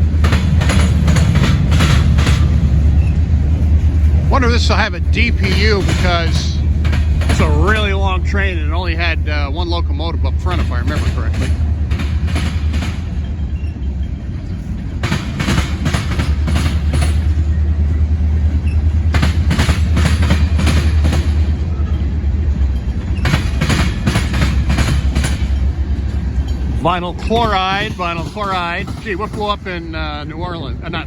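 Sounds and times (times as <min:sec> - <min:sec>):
freight train rumbling past: 0:00.0 - 0:31.0
wheels clicking over rail joints: 0:00.0 - 0:31.0.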